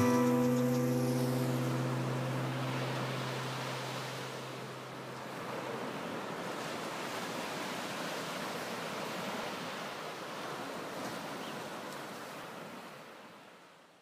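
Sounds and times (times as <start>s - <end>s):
small waves breaking on sand: 0.0s - 14.0s.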